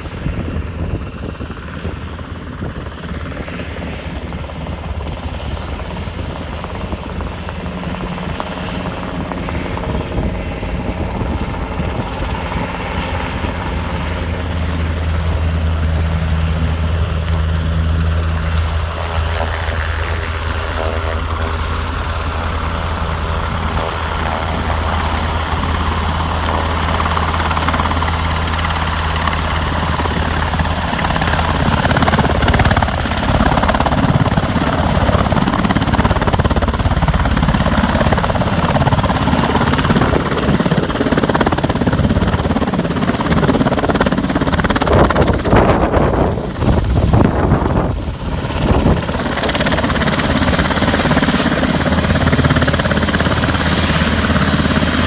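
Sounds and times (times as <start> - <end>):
helicopter rotors and engines: 0.0 - 55.0.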